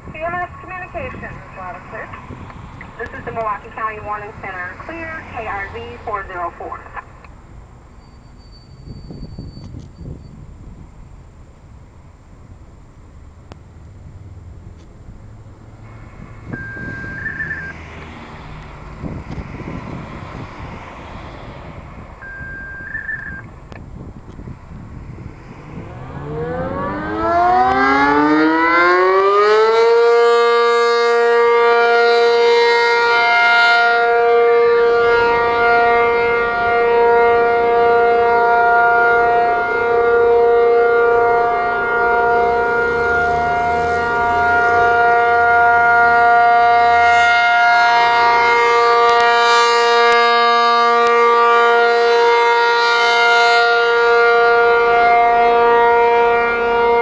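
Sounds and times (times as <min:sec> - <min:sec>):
warning siren steady tone: 0:00.0 - 0:07.2, 0:07.9 - 0:11.0, 0:15.2 - 0:57.0.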